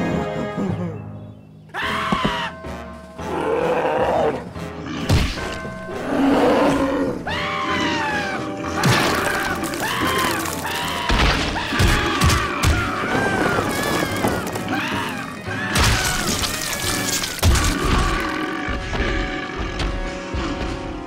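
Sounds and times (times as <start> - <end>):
cartoon soundtrack music: 0.0 - 21.0.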